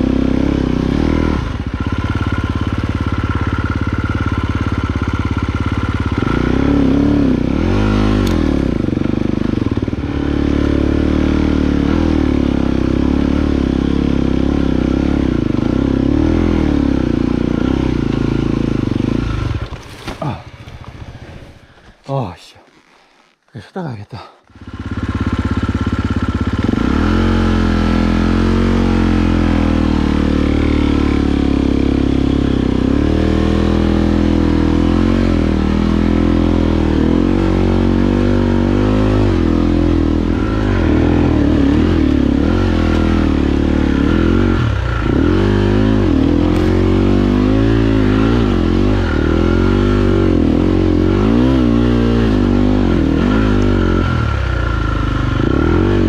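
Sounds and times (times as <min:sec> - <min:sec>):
motorcycle engine revving under load: 0:00.0 - 0:21.9, 0:24.5 - 0:56.0.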